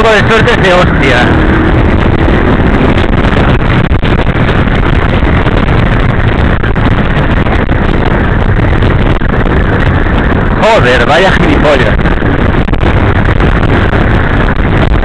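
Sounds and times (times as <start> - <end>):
scooter engine and road noise: 0.0 - 15.0
wind on microphone: 0.0 - 15.0.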